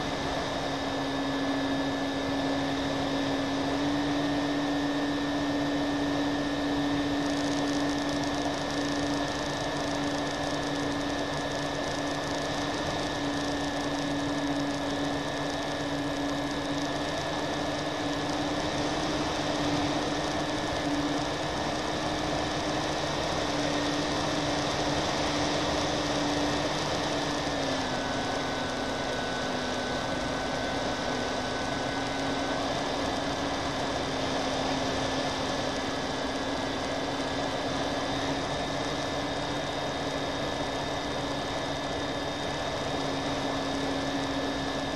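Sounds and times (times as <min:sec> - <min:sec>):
model airplane motors whining: 0:00.0 - 0:44.9.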